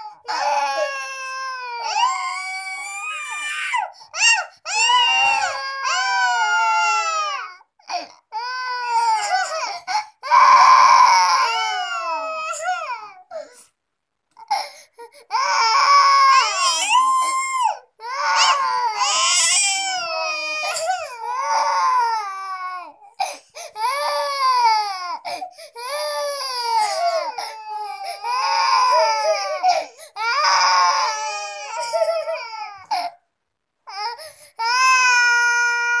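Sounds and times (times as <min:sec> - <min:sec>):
toddlers crying: 0:00.0 - 0:13.2, 0:15.3 - 0:22.9, 0:25.8 - 0:33.2, 0:33.9 - 0:36.0.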